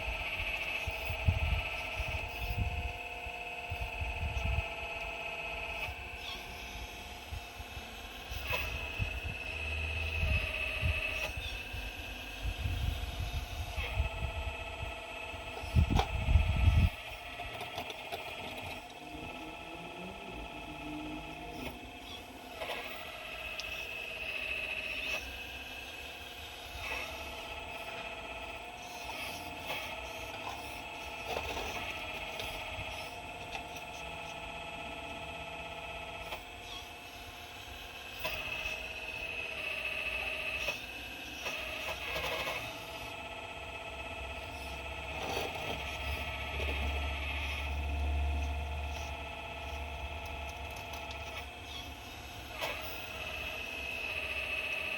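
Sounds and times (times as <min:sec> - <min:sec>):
hydraulic pump whining: 0:00.0 - 0:54.9.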